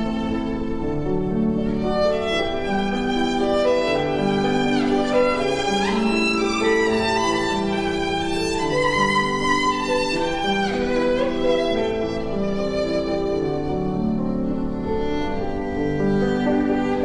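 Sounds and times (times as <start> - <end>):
violin melody with accompaniment: 0.0 - 17.0.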